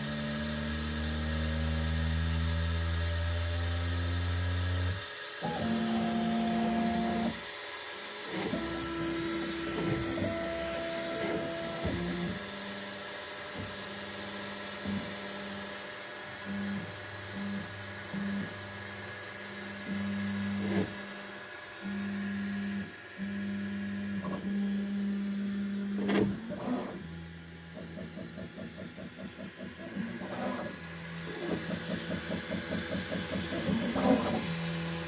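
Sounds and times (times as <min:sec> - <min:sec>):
printer motors whining: 0:03.7 - 0:35.0.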